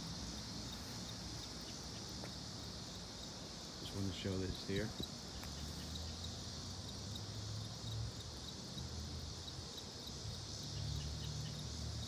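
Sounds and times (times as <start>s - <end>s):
faint insect chirp: 0.0s - 12.0s
insects buzzing: 0.0s - 12.0s.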